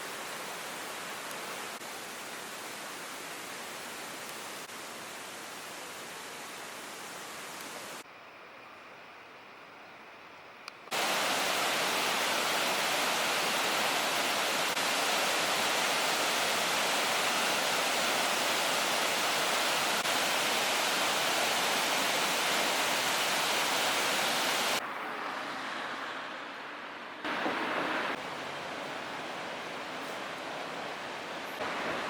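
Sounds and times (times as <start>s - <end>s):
rushing water: 0.0s - 8.0s, 10.9s - 26.0s, 27.2s - 32.0s.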